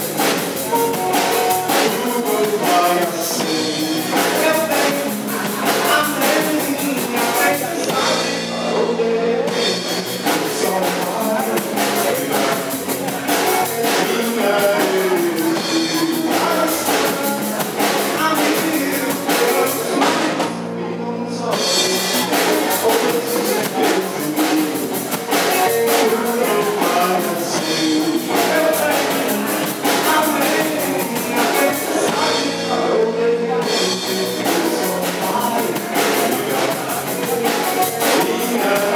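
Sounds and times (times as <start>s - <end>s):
drum kit beat: 0.0s - 20.7s, 21.5s - 38.9s
bass guitar: 0.0s - 38.9s
electric guitars: 0.0s - 38.9s
male lead vocal: 0.0s - 38.9s.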